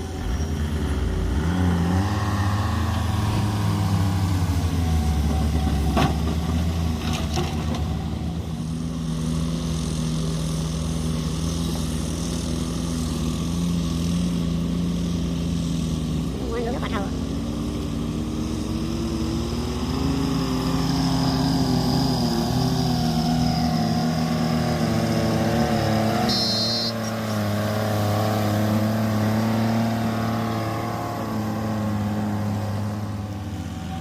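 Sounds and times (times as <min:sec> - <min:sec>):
excavator diesel engine working: 0:00.0 - 0:34.0.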